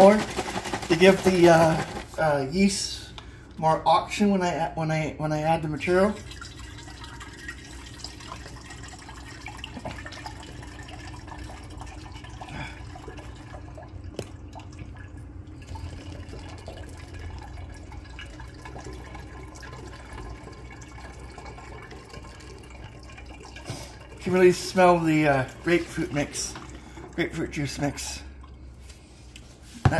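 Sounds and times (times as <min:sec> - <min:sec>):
juice pouring into a jug: 0:00.0 - 0:02.8, 0:05.6 - 0:29.0.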